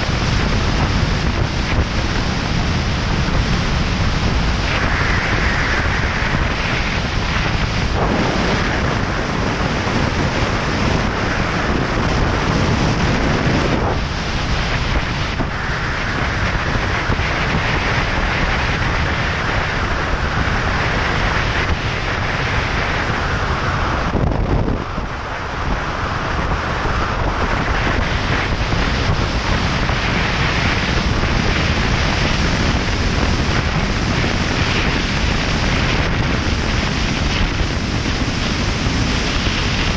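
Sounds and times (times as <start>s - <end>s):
wind roaring over microphone: 0.0s - 39.9s.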